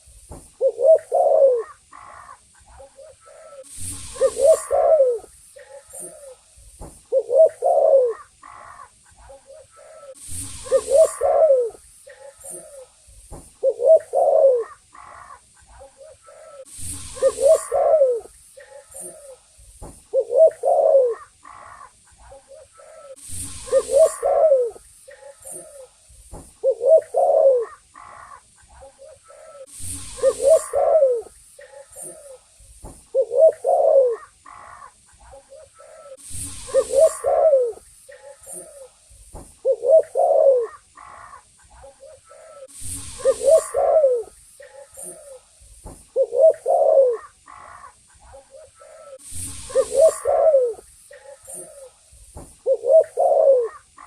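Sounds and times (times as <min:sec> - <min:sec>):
faint hiss: 0:00.0 - 0:54.0
dove cooing: 0:00.6 - 0:06.5, 0:07.1 - 0:13.0, 0:13.6 - 0:19.5, 0:20.1 - 0:26.0, 0:26.6 - 0:39.0, 0:39.6 - 0:45.5, 0:46.1 - 0:52.0, 0:52.6 - 0:54.0.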